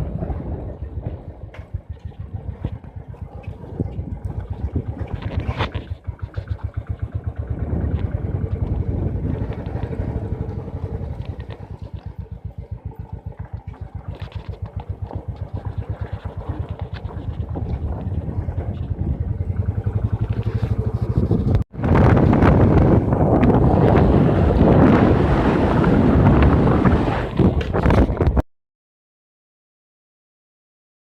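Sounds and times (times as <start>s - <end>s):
motorcycle engine running: 0.0s - 28.2s
wind noise on microphone: 0.0s - 28.4s.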